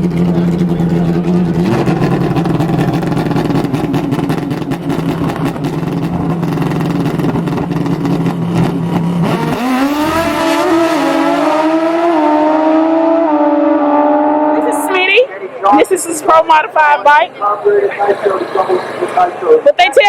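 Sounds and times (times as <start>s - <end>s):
drag racing engines: 0.0s - 20.0s.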